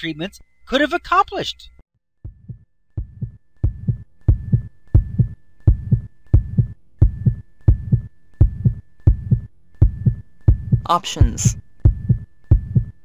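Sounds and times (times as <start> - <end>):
heartbeat thumps: 2.2 - 13.0.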